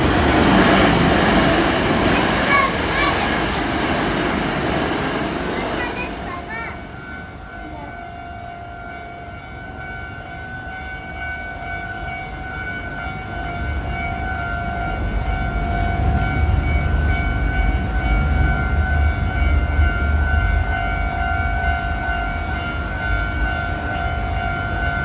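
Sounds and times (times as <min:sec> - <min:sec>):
level-crossing warning bell: 0:00.0 - 0:25.0
train rumble: 0:00.0 - 0:25.0.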